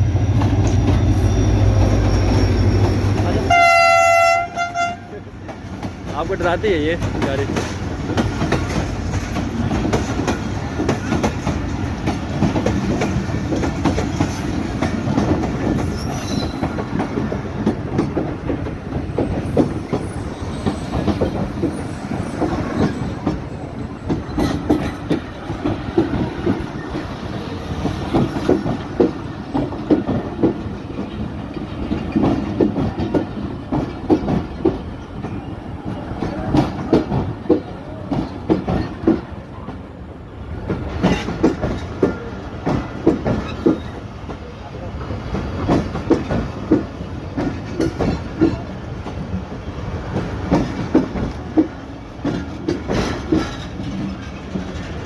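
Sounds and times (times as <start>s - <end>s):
train rumbling on rails: 0.0s - 55.0s
wheels clacking over rail joints: 0.0s - 55.0s.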